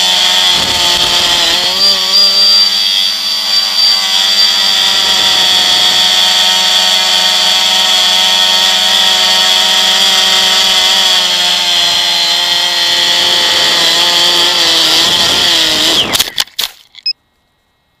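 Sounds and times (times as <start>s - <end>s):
drone motors whining: 0.0s - 17.1s.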